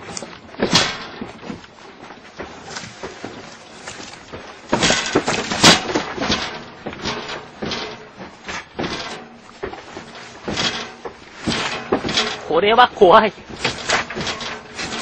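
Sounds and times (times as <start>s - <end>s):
household objects rattling and knocking: 0.0s - 1.7s, 2.4s - 15.0s
loud clattering: 0.6s - 1.6s, 2.9s - 15.0s.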